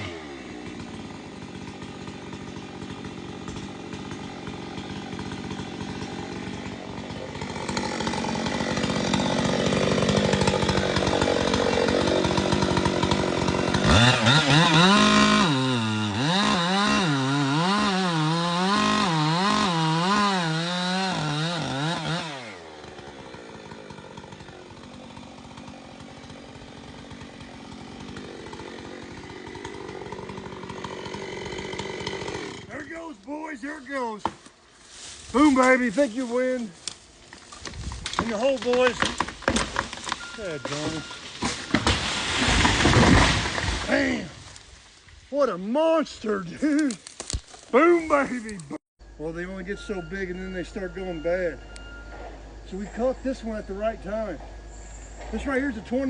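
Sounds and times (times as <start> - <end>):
chainsaw idling and cutting: 0.0 - 56.0.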